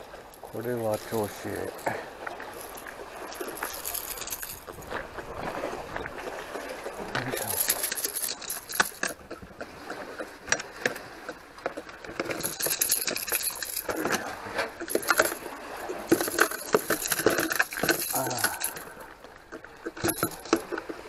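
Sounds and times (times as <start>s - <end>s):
fishing tools metallic clinks: 0.3s - 4.9s, 7.1s - 11.0s, 11.6s - 21.0s.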